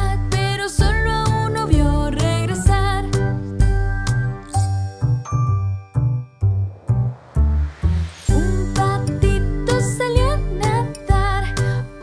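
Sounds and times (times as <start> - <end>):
instrumental children's song: 0.0 - 12.0.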